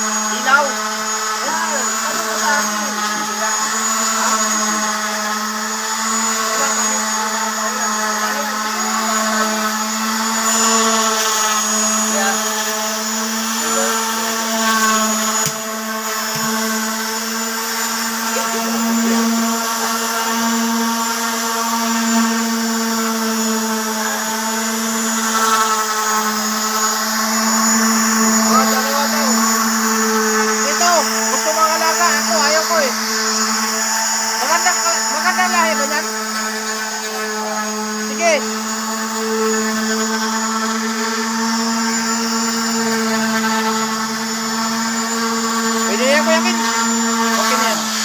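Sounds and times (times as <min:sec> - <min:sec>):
power tool whining: 0:00.0 - 0:48.0.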